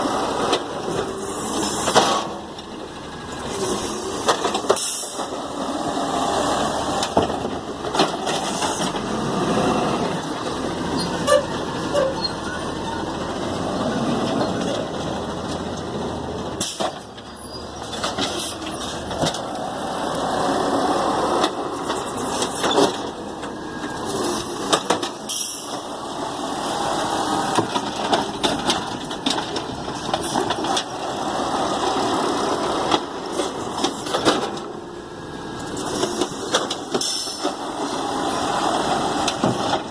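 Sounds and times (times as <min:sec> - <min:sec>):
garbage truck engine and machinery: 0:00.0 - 0:39.9.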